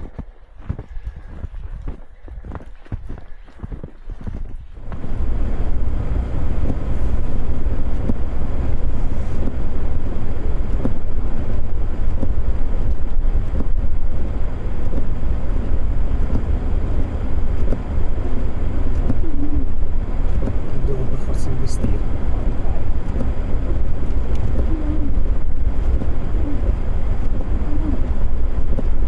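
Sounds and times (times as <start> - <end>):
vehicle driving through snow: 4.8 - 29.0.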